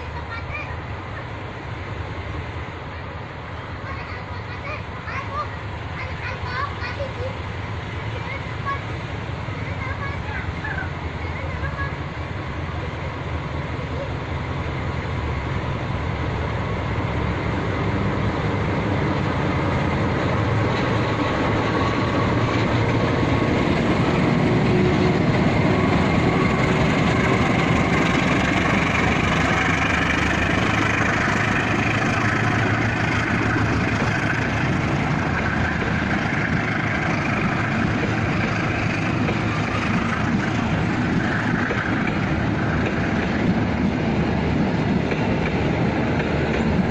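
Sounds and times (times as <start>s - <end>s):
passenger train running: 0.0s - 46.9s.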